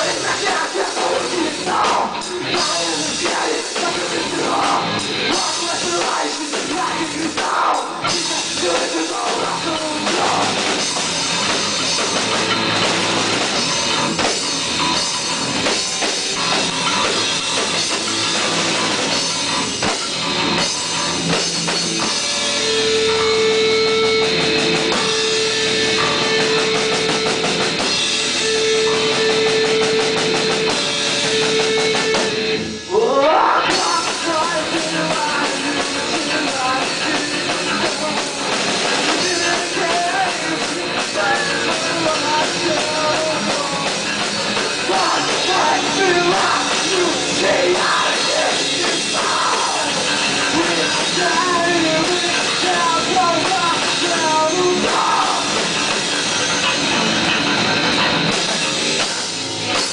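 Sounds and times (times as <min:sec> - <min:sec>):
bass guitar: 0:00.0 - 0:59.9
distorted electric guitar: 0:00.0 - 0:59.9
drum kit: 0:00.0 - 0:59.9.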